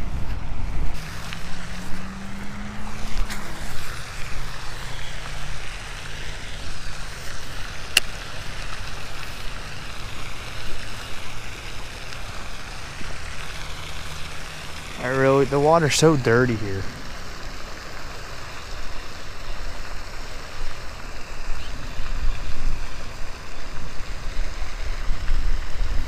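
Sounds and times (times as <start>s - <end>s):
fountain spray rushing: 0.0s - 26.0s.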